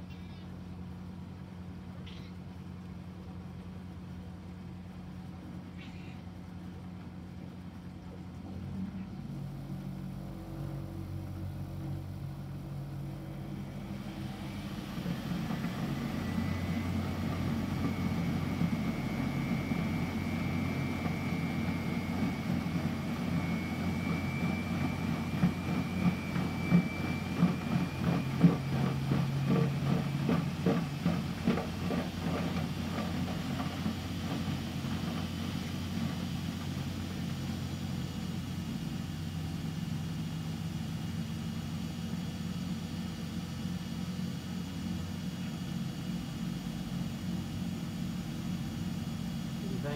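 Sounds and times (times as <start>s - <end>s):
faint high whine: 0.0s - 49.9s
washing machine motor hum: 0.0s - 49.9s.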